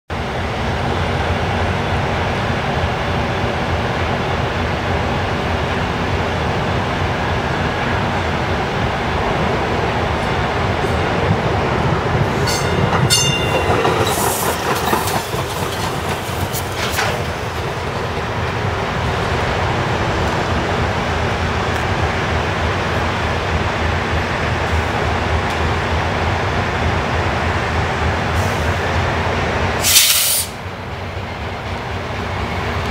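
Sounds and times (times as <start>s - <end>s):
diesel locomotive engine rumbling: 0.1s - 32.9s
rail clacks: 0.6s - 29.8s.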